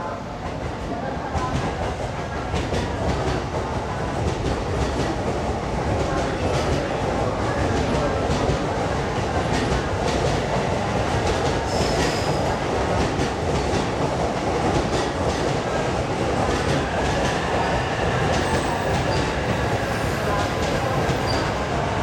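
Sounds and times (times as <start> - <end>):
train wheels rumbling on rails: 0.3 - 22.0.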